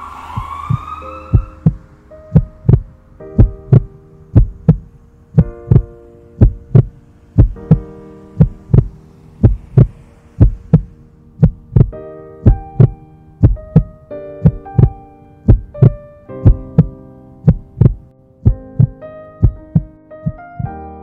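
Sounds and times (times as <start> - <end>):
soft synth chords: 0.0 - 21.0
heartbeat thumps: 0.4 - 20.7.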